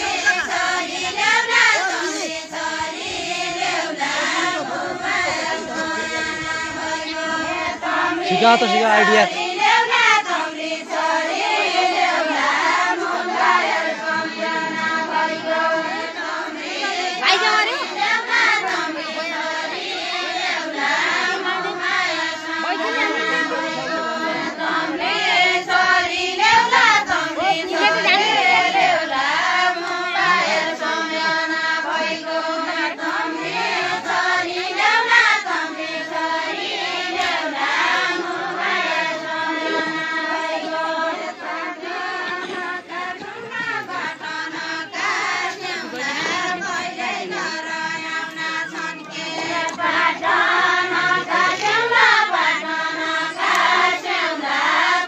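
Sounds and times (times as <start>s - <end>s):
women singing in chorus: 0.0s - 55.0s.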